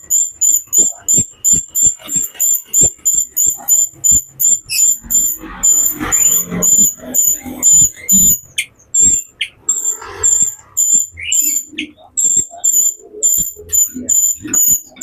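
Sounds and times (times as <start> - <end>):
bird scratchy chatter: 0.0 - 15.0
songbird high-pitched calls: 0.0 - 15.0.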